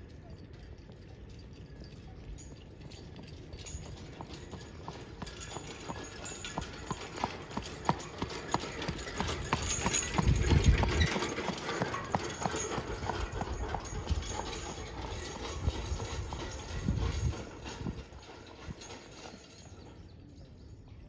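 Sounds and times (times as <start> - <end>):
horse hooves clip-clopping on asphalt: 0.0 - 19.8
cart rumble: 0.0 - 21.0.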